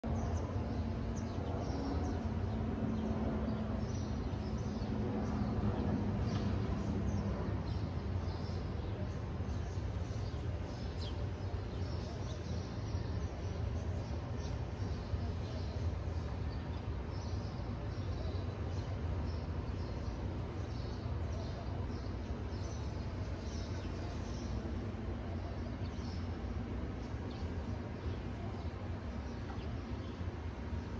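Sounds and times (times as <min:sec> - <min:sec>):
low outdoor rumble: 0:00.0 - 0:30.9.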